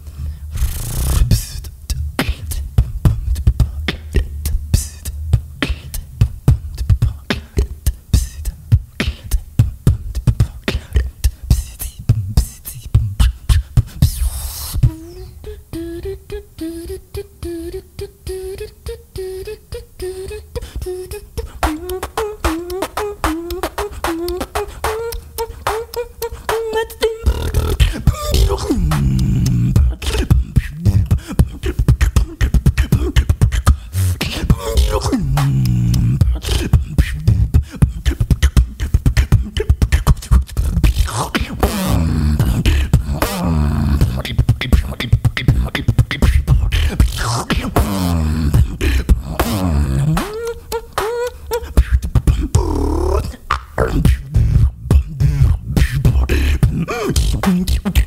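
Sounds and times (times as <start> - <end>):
beatboxing kick and snare: 0.0 - 15.2, 20.6 - 58.0
pitched vocal line: 0.0 - 58.0.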